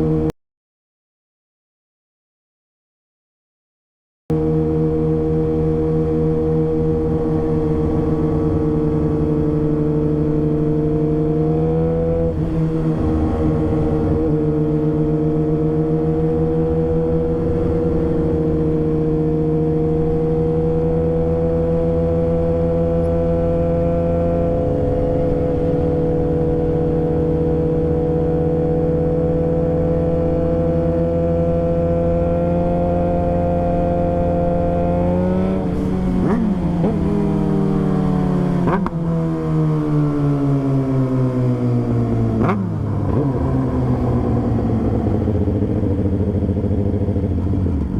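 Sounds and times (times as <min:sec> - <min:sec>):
motorcycle engine running: 0:04.3 - 0:47.9.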